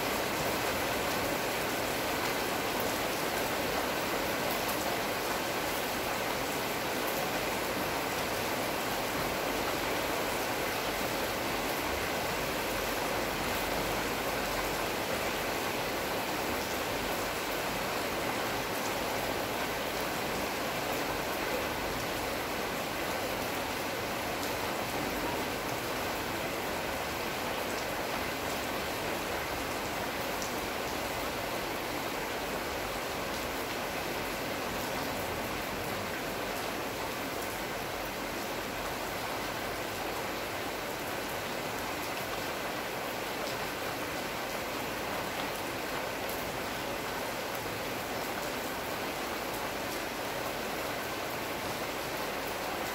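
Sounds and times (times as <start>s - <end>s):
rain on foliage: 0.0s - 52.9s.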